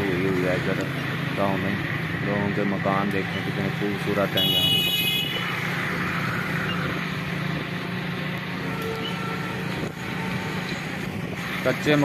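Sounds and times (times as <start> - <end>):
road and wind noise: 0.0 - 12.0
vehicle engine hum: 0.0 - 12.0.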